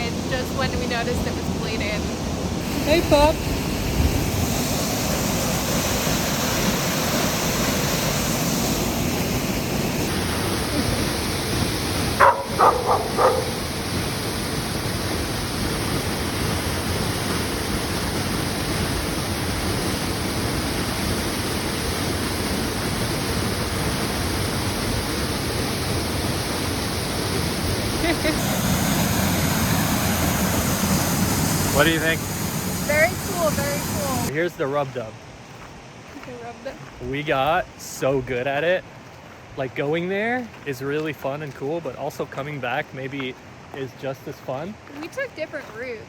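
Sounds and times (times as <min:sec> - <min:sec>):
waterfall and creek rushing: 0:00.0 - 0:46.0.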